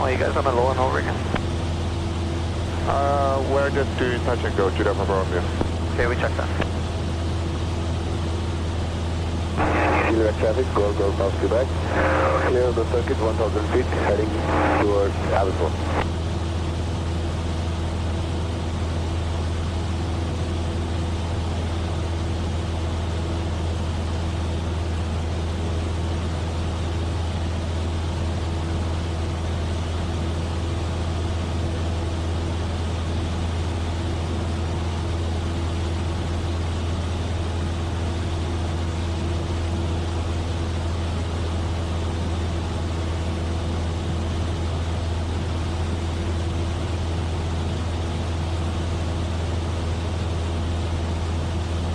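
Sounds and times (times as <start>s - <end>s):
aircraft engine droning in cabin: 0.0s - 51.9s.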